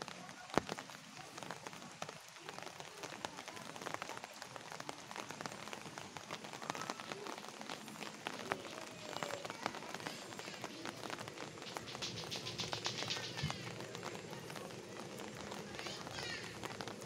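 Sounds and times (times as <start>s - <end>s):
light rain pattering: 0.0s - 17.0s.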